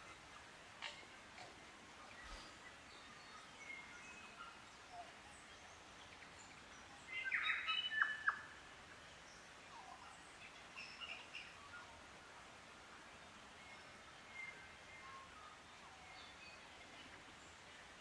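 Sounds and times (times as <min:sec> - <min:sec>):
faint steady hiss: 0:00.0 - 0:18.0
forest birds chirping: 0:00.0 - 0:18.0.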